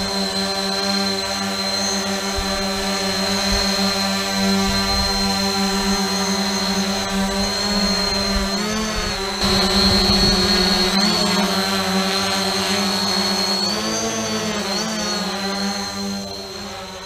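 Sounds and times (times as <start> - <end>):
drone motors droning whine: 0.0 - 17.0.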